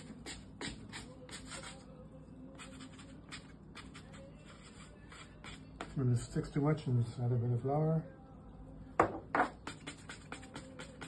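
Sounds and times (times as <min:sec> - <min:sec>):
hands shaping dough on countertop: 0:00.0 - 0:07.1, 0:09.0 - 0:11.0.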